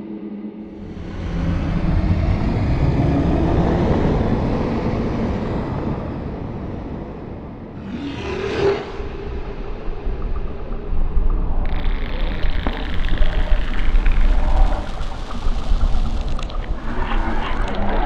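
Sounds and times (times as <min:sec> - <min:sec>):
deep rumbling swell: 0:00.6 - 0:18.0.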